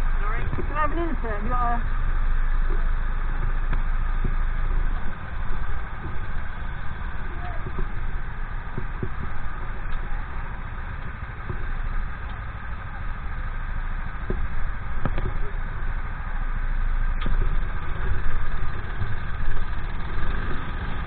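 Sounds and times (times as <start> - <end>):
go-kart engines idling: 0.0 - 21.0.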